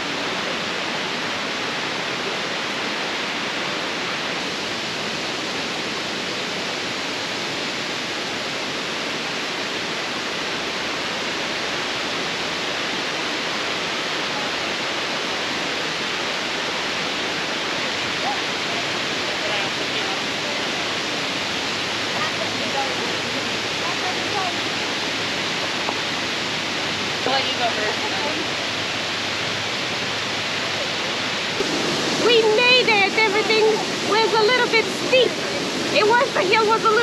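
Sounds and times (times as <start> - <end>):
waterfall rushing hiss: 0.0 - 37.0.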